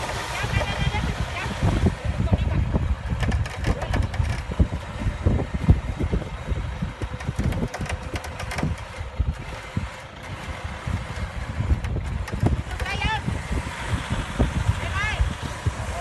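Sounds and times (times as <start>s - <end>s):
knocks and bumps: 0.0s - 13.6s
vehicle engine rumbling: 0.0s - 16.0s.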